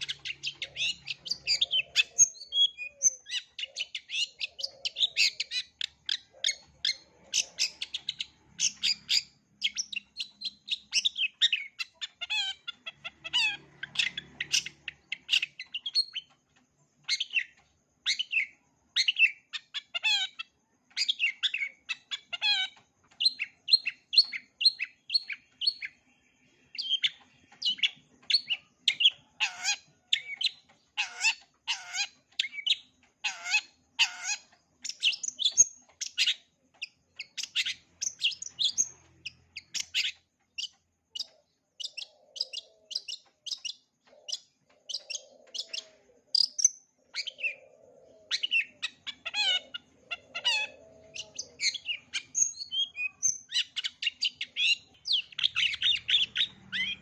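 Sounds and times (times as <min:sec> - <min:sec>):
loud down-slurred bird calls: 0:00.0 - 0:57.0
shrike singing fast chirps: 0:00.0 - 0:57.0.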